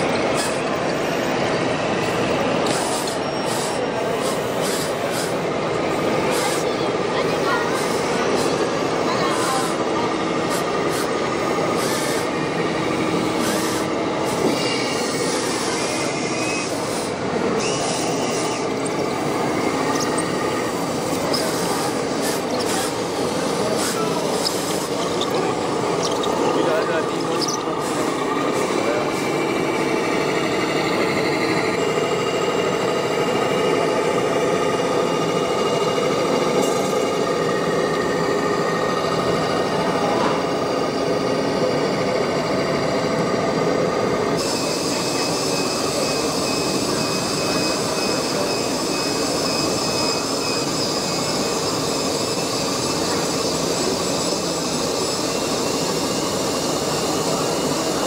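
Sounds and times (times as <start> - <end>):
busy exhibition hall din: 0.0 - 58.0
model truck engine sound: 0.0 - 58.0
small electric motors whining: 0.1 - 58.0.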